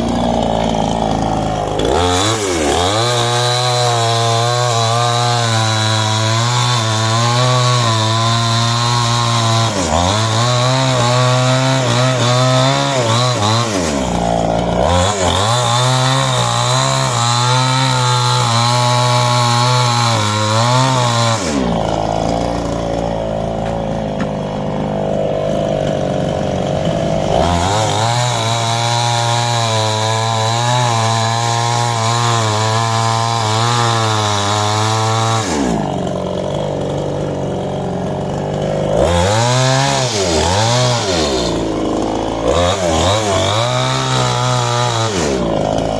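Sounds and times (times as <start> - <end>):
chainsaw cutting a tree: 0.0 - 45.9.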